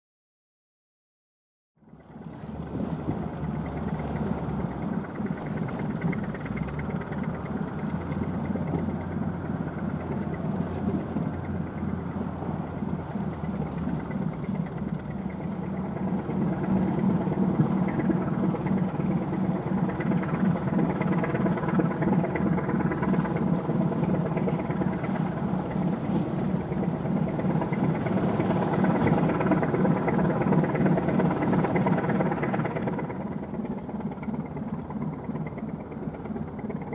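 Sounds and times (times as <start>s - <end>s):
ship diesel engine running: 1.8s - 36.9s.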